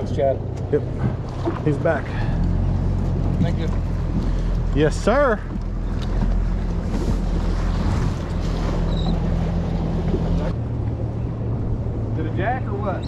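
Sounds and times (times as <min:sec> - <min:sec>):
outboard motor running: 0:00.0 - 0:13.0
water rushing past hull: 0:00.0 - 0:13.0.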